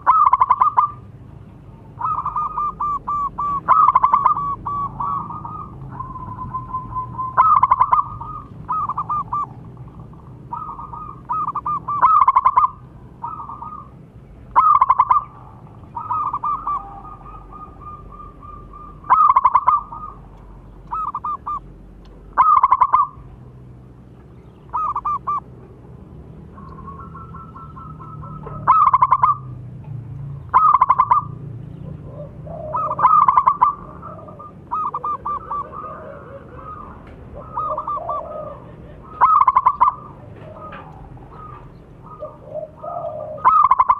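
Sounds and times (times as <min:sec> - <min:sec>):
dove cooing: 0:00.0 - 0:01.1, 0:01.8 - 0:21.7, 0:22.3 - 0:23.3, 0:24.6 - 0:25.5, 0:26.5 - 0:29.6, 0:30.5 - 0:43.9
soft bird trills: 0:00.0 - 0:23.4, 0:24.1 - 0:25.6, 0:26.4 - 0:29.6, 0:30.4 - 0:43.9.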